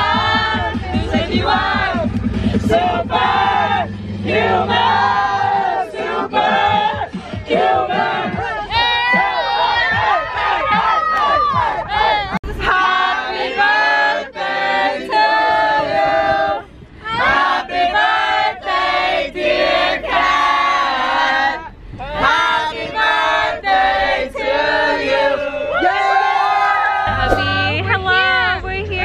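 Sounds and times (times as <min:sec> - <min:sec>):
women singing together: 0:00.0 - 0:28.6.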